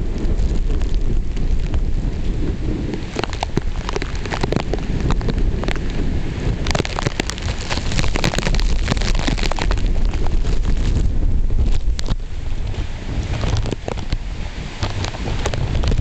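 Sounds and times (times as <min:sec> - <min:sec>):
heavy rain spattering: 0:00.0 - 0:16.0
wind gusts buffeting microphone: 0:00.0 - 0:16.0.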